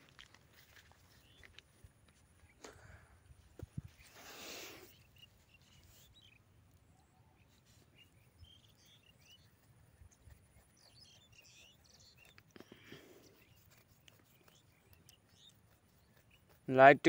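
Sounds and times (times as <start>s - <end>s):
faint bird chirps: 2.4s - 17.0s.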